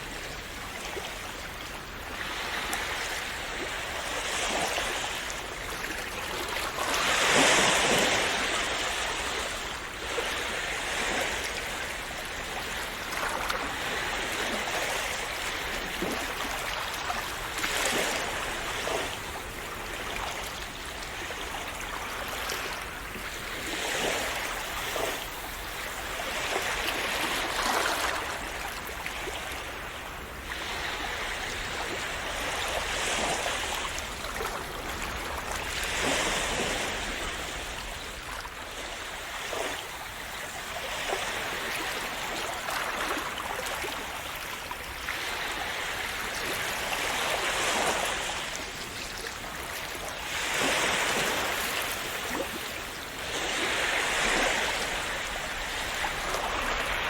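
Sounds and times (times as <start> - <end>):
small waves washing onto shore: 0.0 - 57.0.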